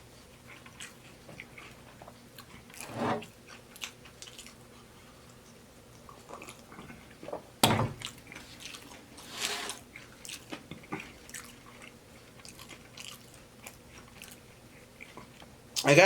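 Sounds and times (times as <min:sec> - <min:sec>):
chewing with crunches: 0:00.0 - 0:07.3, 0:08.0 - 0:09.2, 0:09.8 - 0:15.8.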